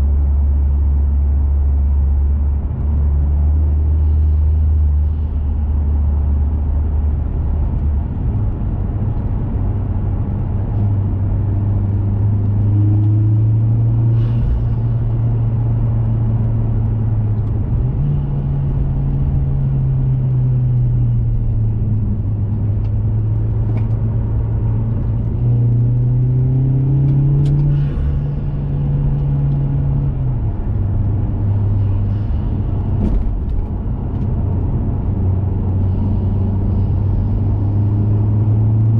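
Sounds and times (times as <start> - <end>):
car engine droning while driving: 0.0 - 38.9.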